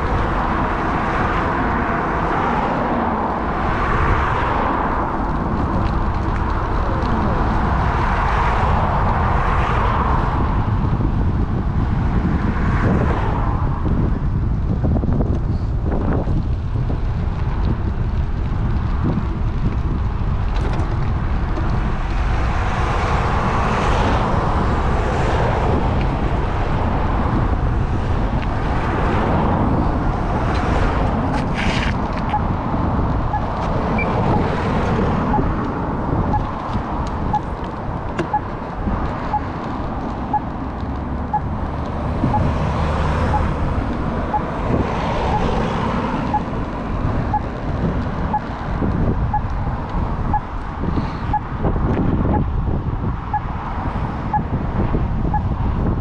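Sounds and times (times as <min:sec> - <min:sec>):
road traffic passing: 0:00.0 - 0:56.0
wind rushing over microphone: 0:00.0 - 0:56.0.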